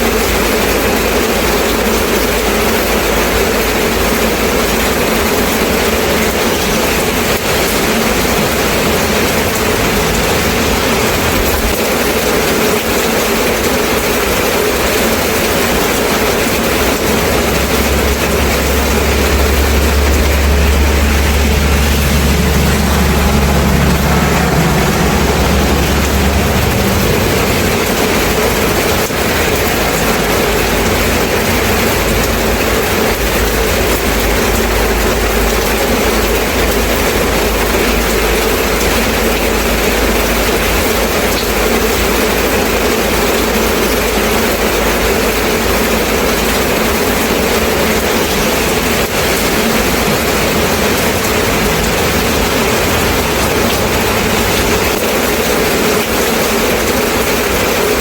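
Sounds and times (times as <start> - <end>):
heavy rain falling: 0.0 - 58.0
low engine rumble: 0.0 - 58.0.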